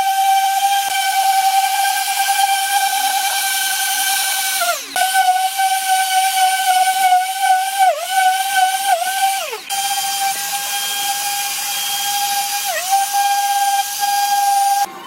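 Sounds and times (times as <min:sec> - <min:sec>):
electric power tool whining: 0:00.0 - 0:15.0.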